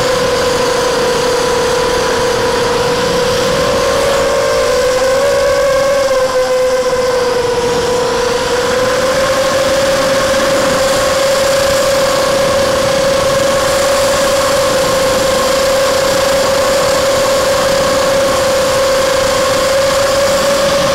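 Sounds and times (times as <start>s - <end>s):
drone motors whining: 0.0s - 20.9s.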